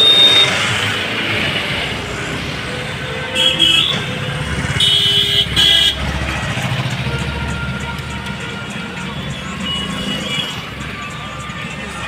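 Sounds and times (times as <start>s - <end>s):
vehicle horns beeping: 0.0s - 1.0s, 2.9s - 11.6s
traffic engine and tyre rumble: 0.0s - 12.0s.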